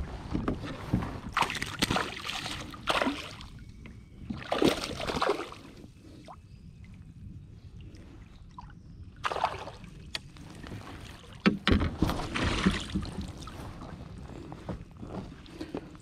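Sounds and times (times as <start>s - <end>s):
water sloshing around a kayak: 0.0s - 16.0s.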